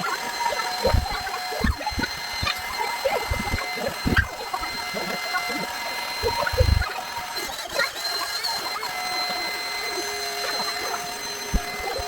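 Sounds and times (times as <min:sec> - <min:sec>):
electric air pump running: 0:00.0 - 0:12.0.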